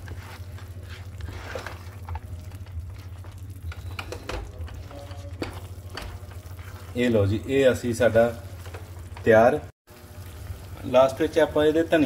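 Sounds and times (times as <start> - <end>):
gravy simmering and sizzling: 0.0 - 12.0.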